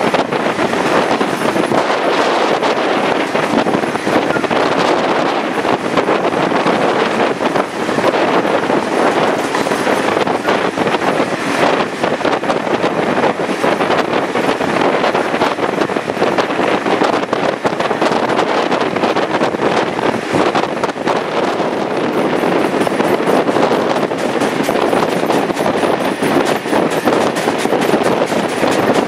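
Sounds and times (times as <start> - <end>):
train wheels on rails: 0.0 - 29.0
wind buffeting microphone: 0.0 - 29.0.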